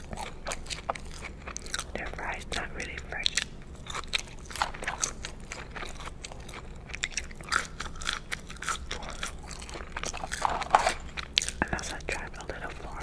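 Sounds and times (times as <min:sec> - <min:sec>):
chewing crunchy fries: 0:00.0 - 0:13.0.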